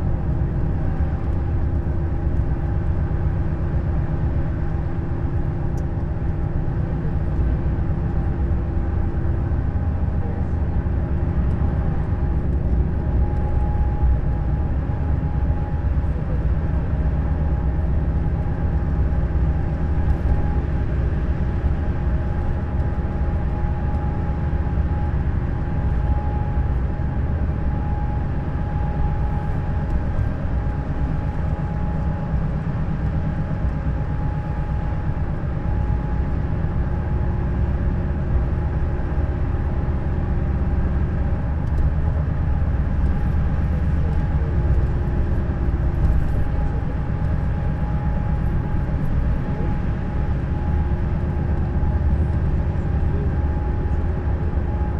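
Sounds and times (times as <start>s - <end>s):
coach engine drone: 0.0s - 54.9s
road noise: 0.0s - 54.9s.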